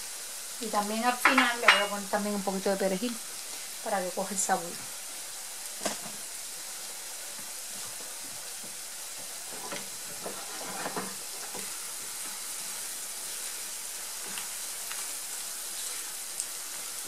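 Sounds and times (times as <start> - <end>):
sauce sizzling in a frying pan: 0.0 - 17.0.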